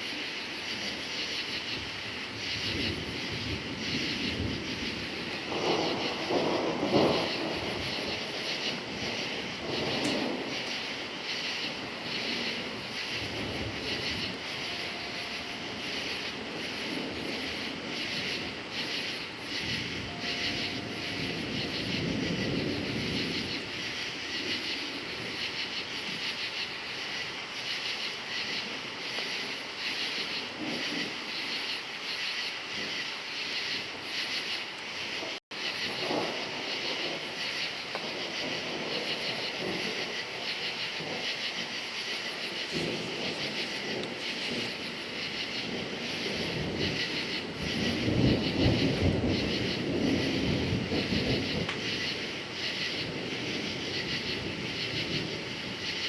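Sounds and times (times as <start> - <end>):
crickets chirping: 0.0 - 56.0
distant thunder rumbling: 0.0 - 56.0.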